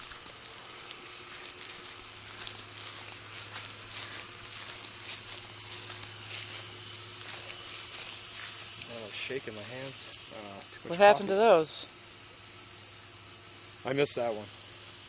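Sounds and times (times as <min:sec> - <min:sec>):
shrill insect chorus: 0:00.0 - 0:15.0.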